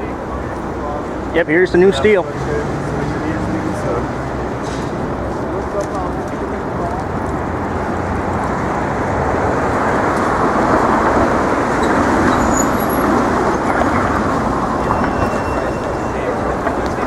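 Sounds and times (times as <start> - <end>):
traffic passing: 0.0 - 17.0.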